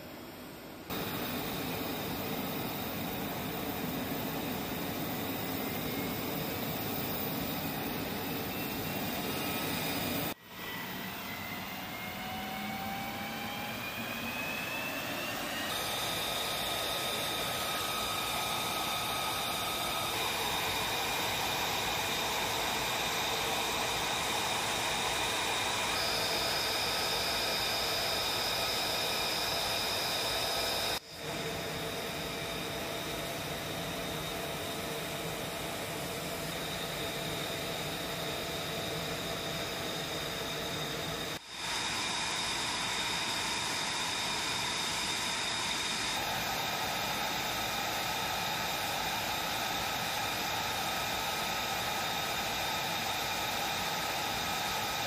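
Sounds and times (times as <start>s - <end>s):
high engine whines: 0.8s - 55.0s
jet engines rushing: 0.9s - 55.0s.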